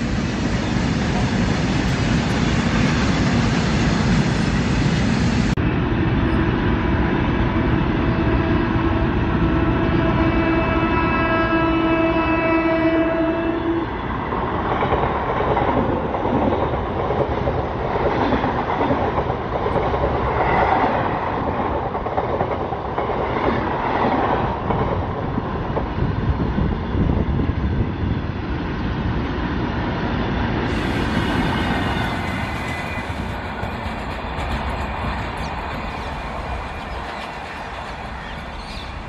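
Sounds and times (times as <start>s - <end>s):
electric train passing at speed: 0.0s - 39.0s.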